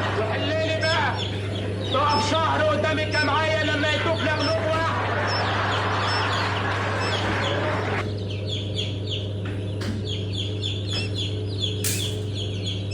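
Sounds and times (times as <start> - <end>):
quail chirping: 0.0 - 12.9
steady low hum: 0.0 - 12.9.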